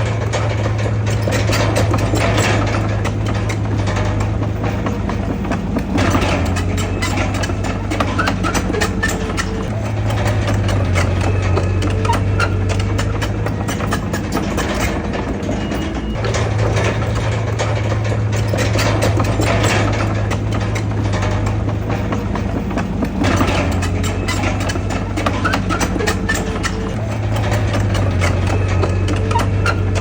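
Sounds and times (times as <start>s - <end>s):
heavy diesel engine droning: 0.0s - 30.0s
short clicks and rattles: 0.0s - 30.0s.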